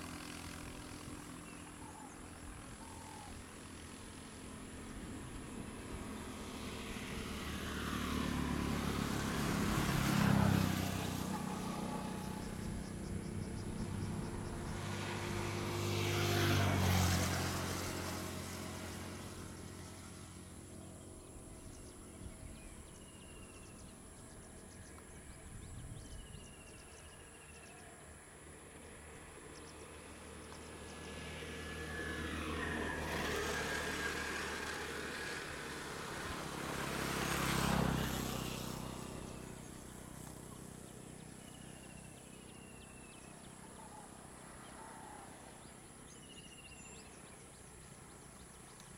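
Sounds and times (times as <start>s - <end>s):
outdoor background noise: 0.0s - 48.9s
vehicles passing on road: 0.0s - 48.9s.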